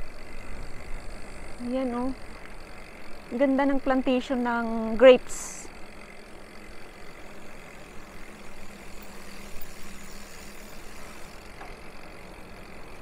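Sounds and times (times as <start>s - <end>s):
bike tyre hum on road: 0.0s - 13.0s
faint steady hum: 0.0s - 13.0s.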